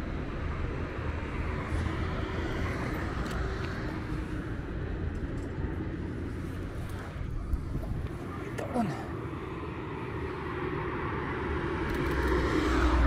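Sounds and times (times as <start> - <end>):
city street traffic: 0.0 - 13.0
faint engine hum: 0.0 - 13.0.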